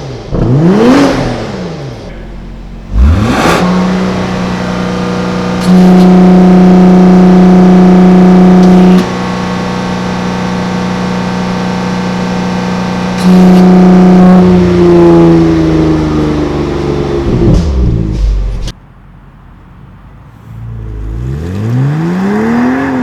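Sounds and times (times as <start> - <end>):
car engine at high revs: 0.0 - 18.7, 20.6 - 23.0.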